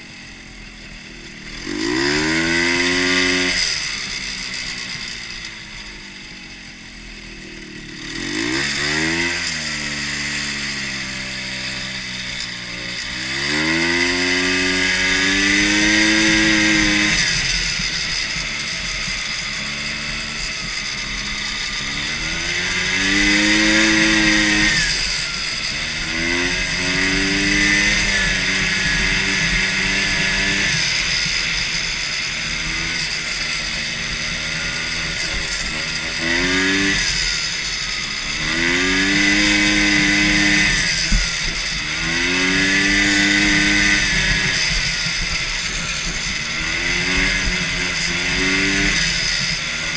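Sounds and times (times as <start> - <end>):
engine revving: 0.0 - 49.9.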